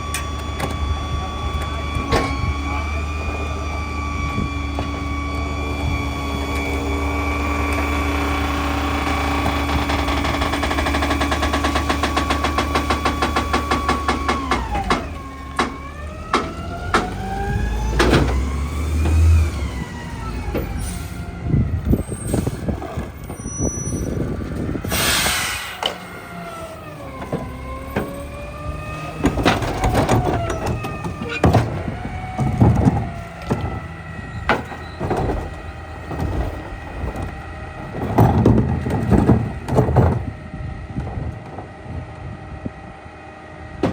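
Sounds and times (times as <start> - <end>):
garbage truck engine revving: 0.0 - 42.1
hydraulic packer clunks: 0.0 - 42.3, 43.7 - 43.9.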